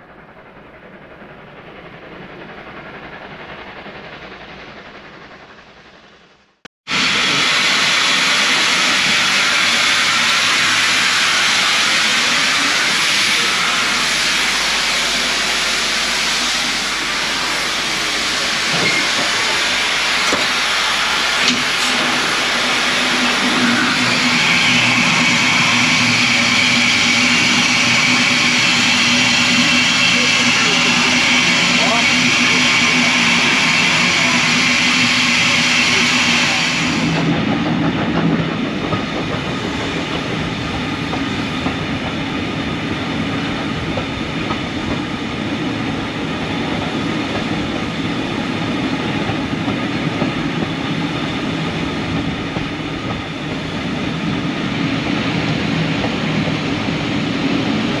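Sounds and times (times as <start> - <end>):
steam locomotive hissing steam: 1.0 - 58.0.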